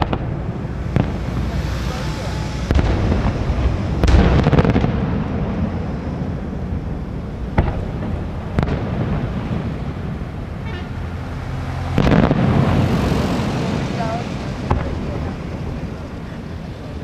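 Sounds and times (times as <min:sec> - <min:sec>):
fireworks bursting: 0:00.0 - 0:17.0
steady low rumble: 0:00.0 - 0:17.0.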